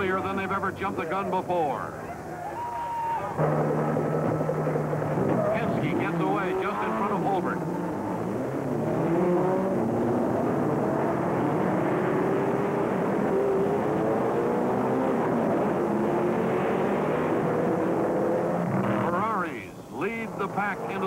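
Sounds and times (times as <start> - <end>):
racing car engines at full throttle: 3.4 - 21.0.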